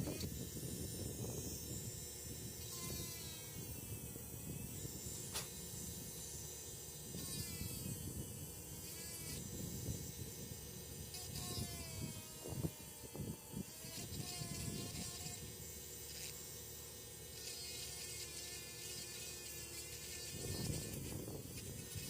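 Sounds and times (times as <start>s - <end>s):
rotary tool grinding whine: 0.0s - 22.0s.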